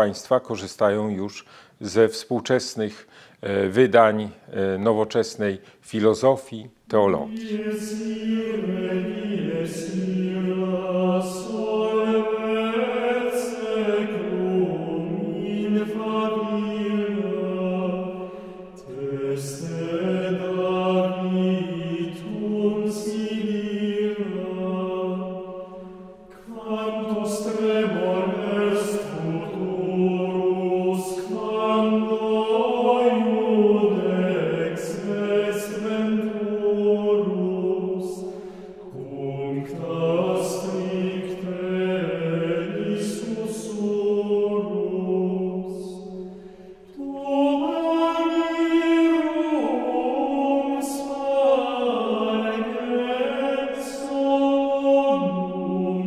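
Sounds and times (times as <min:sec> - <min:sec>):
choir chanting in unison: 0:07.3 - 0:56.0.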